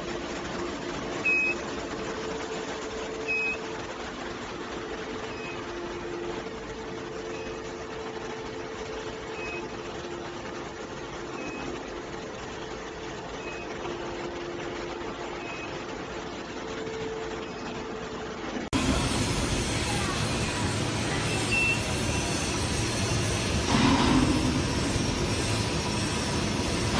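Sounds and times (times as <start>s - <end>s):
machine hum: 0.0s - 26.9s.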